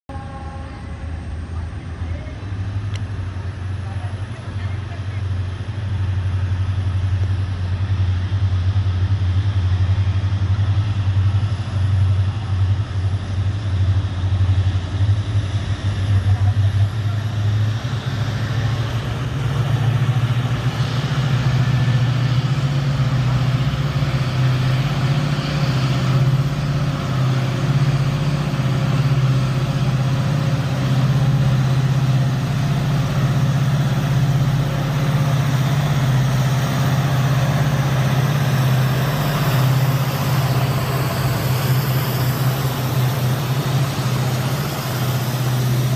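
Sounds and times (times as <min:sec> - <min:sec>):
diesel locomotive engines throbbing: 0:00.1 - 0:45.9.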